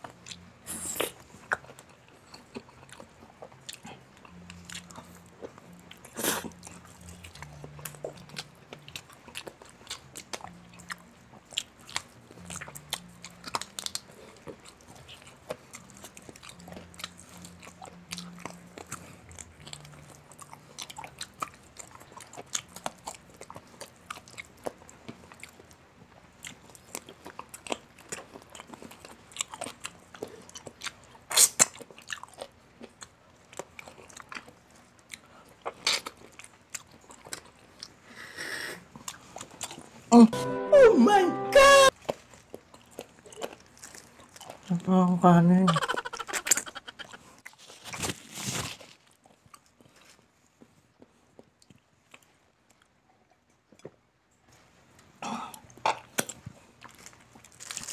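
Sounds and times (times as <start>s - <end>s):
person chewing crispy food: 0.0s - 40.2s, 41.9s - 44.8s, 45.8s - 57.9s.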